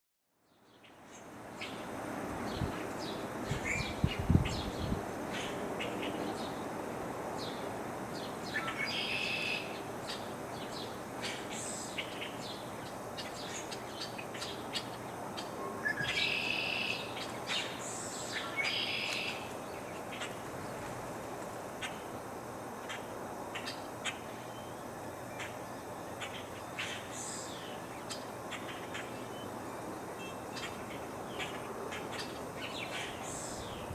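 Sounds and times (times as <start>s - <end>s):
steady breeze: 0.2s - 33.9s
wild birds chirping: 0.5s - 33.9s.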